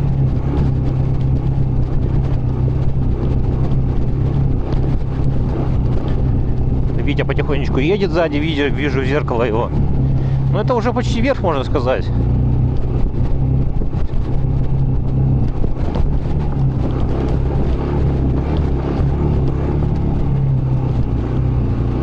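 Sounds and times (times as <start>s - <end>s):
motorcycle engine under load: 0.0s - 22.0s.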